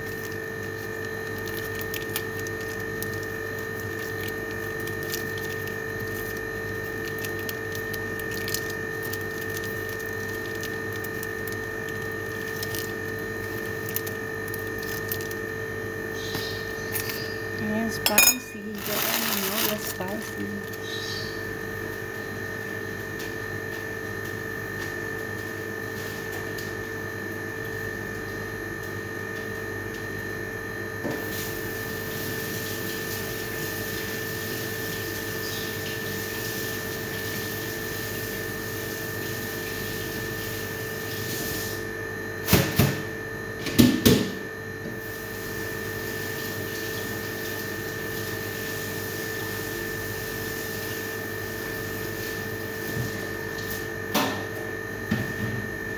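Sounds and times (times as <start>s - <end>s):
appliance hum with high whine: 0.0s - 55.9s.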